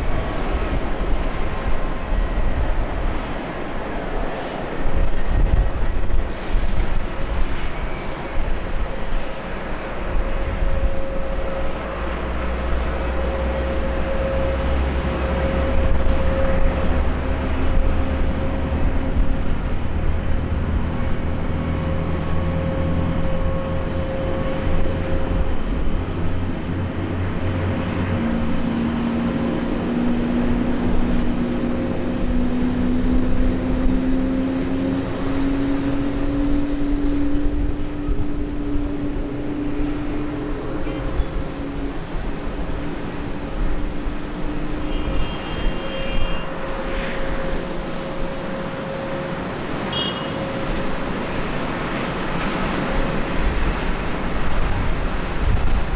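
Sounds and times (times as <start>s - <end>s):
jet engines rumbling and whining: 0.0s - 55.9s.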